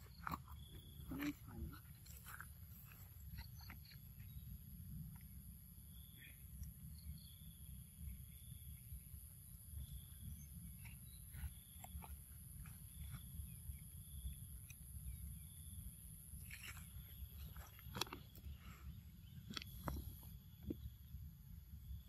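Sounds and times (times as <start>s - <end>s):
insects whining and chirping: 0.0s - 22.0s.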